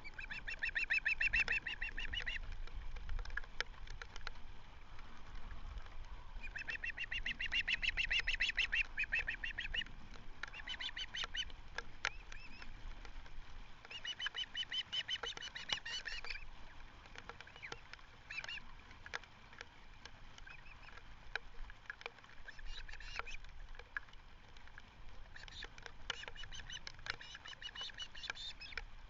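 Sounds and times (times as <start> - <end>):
ospreys calling: 0.0 - 29.0.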